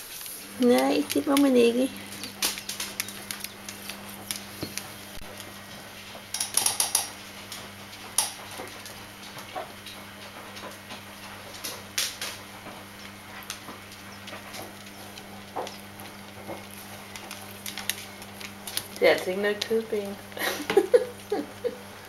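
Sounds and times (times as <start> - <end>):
puppies scratching on vinyl floor: 0.0 - 21.8
steady low hum: 0.0 - 22.0.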